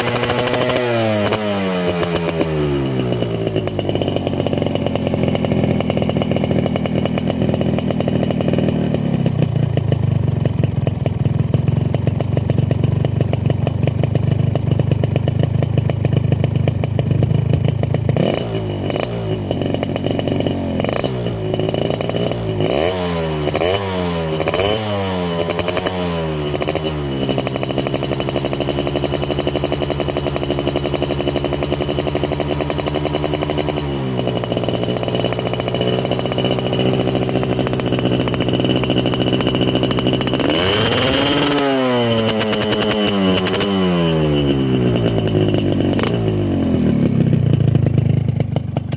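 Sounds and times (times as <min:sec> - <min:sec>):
motorcycle throttle blips: 0:00.0 - 0:48.9
two-stroke motorcycle engine running: 0:00.0 - 0:48.9.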